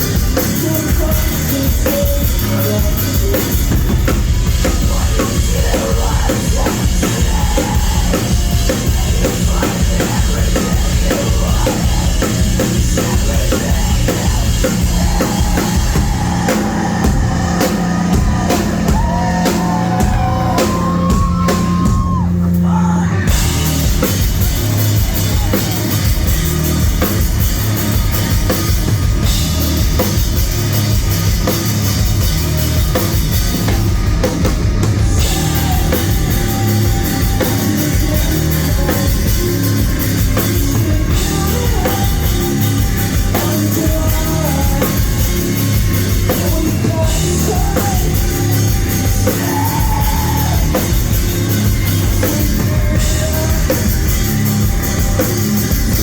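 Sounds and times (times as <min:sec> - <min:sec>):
drum kit: 0:00.0 - 0:56.0
live rock band playing: 0:00.0 - 0:56.0.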